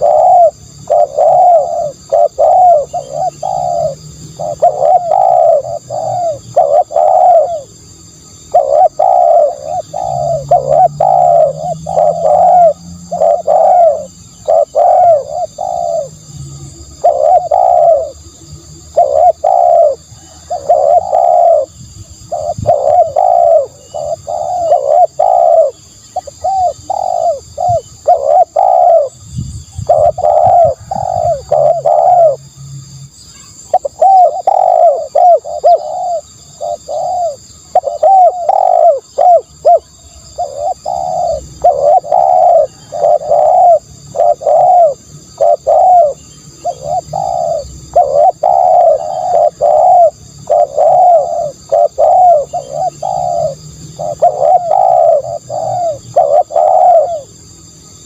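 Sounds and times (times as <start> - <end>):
dove cooing: 0.0 - 32.5, 33.5 - 57.4.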